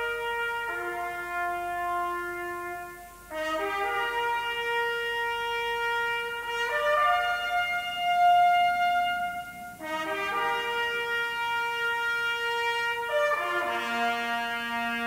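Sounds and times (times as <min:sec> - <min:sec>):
sustained brass chords: 0:00.0 - 0:15.0.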